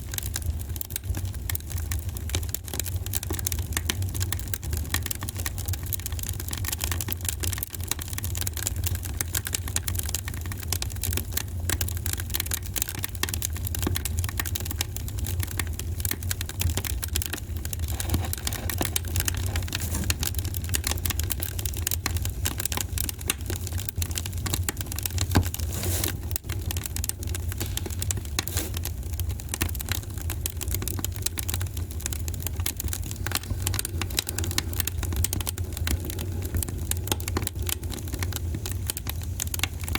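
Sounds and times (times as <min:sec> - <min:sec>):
fire pops and snaps: 0:00.0 - 0:39.9
wood fire crackling: 0:00.0 - 0:39.9.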